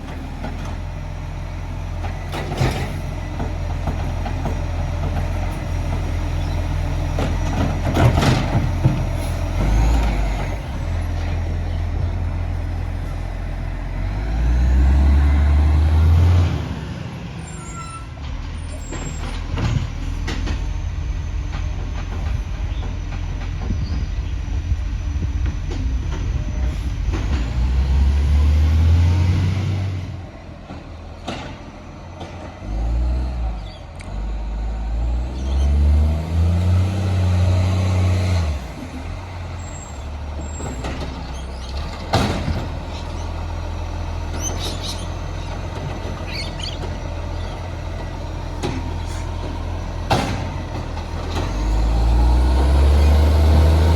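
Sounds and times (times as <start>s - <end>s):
diesel truck engine idling and revving: 0.0s - 53.9s.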